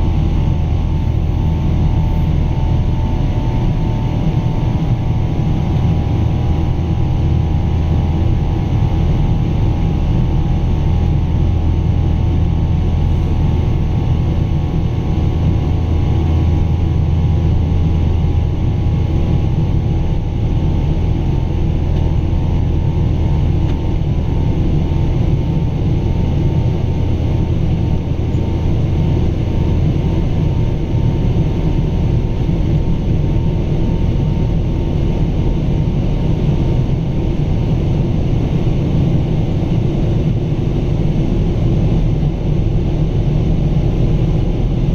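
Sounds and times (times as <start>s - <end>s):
jet engines rumbling with whine: 0.0s - 44.9s.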